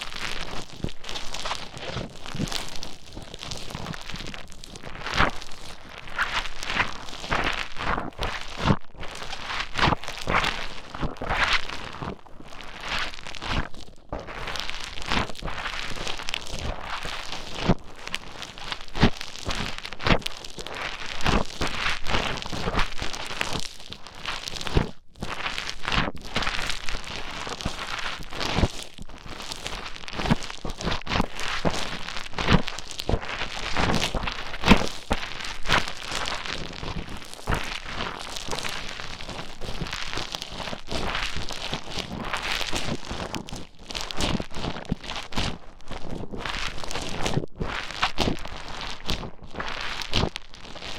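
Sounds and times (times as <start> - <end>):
modelling foam crackling: 0.0 - 50.9.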